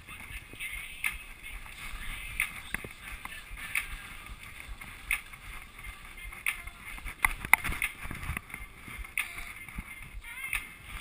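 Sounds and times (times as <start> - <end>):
skis swishing through snow: 1.2 - 11.0.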